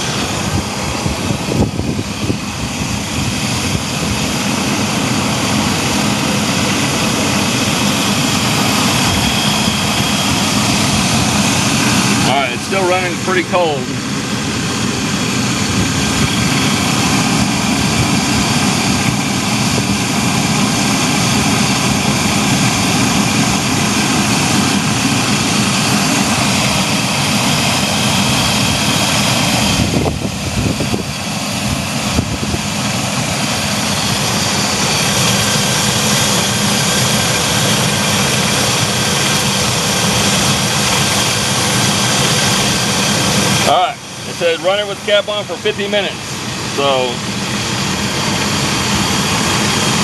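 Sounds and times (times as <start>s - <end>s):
van engine idling: 0.0s - 50.0s.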